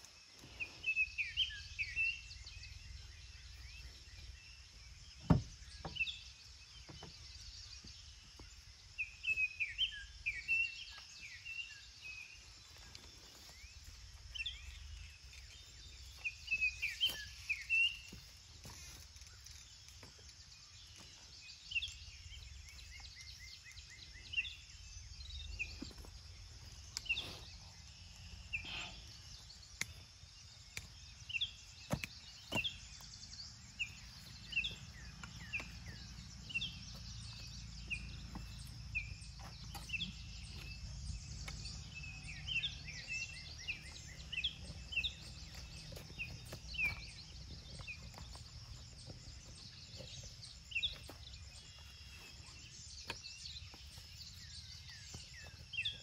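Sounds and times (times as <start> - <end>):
wild birds chirping: 0.0 - 56.0.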